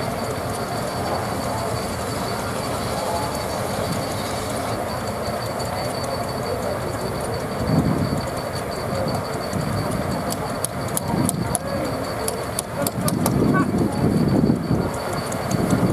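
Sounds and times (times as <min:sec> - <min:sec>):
steam engine clatter and rumble: 0:00.0 - 0:15.9
thin high whine: 0:00.0 - 0:15.9.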